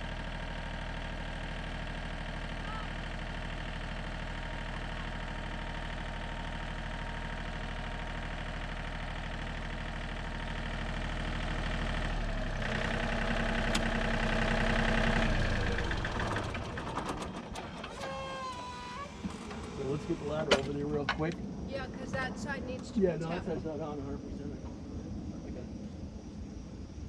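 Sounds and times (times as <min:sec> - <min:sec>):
tractor engine: 0:00.0 - 0:21.7.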